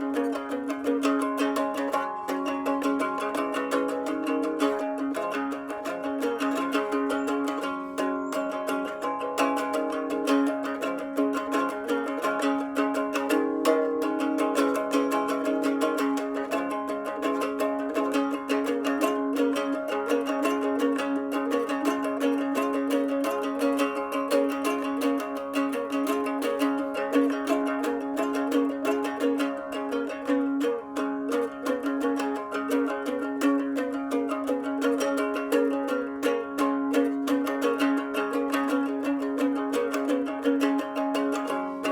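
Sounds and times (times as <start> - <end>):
plucked string instrument boogie: 0.0 - 41.9.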